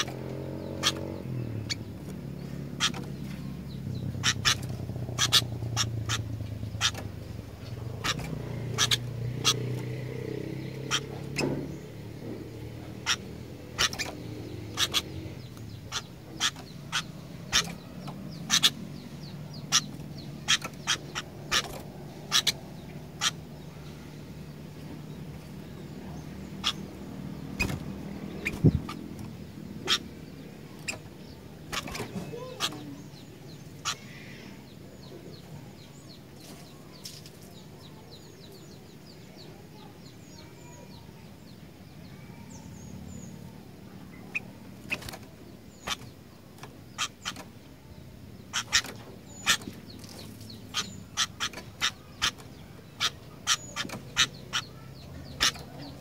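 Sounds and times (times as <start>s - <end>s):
bulbuls chirping: 0.0s - 56.0s.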